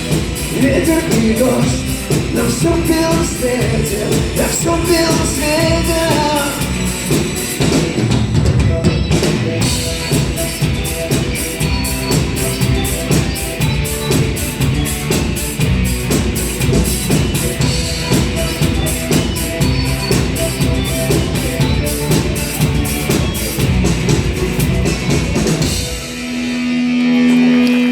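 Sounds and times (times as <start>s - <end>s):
drum kit beat: 0.0s - 27.9s
rock band playing: 0.0s - 27.9s.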